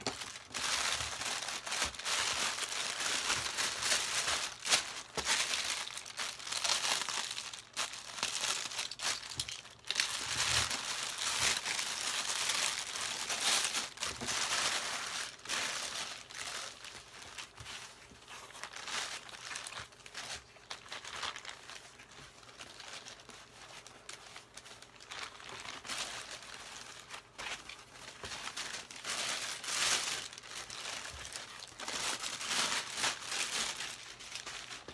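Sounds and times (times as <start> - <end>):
plastic packaging crinkling: 0.0 - 34.9.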